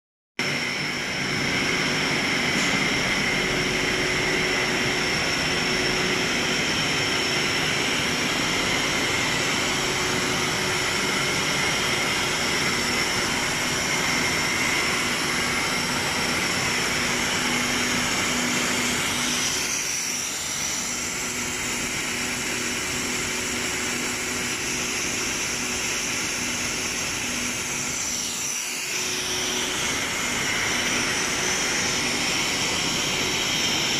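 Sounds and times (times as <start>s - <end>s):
factory machinery hum: 0.4s - 33.9s
high machine whines: 0.4s - 33.9s.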